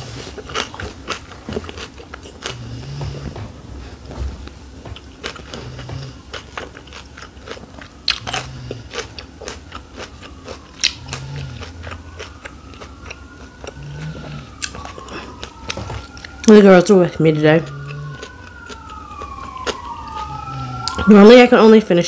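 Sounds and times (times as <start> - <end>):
chewing crunchy food: 0.0 - 3.5, 4.9 - 21.4.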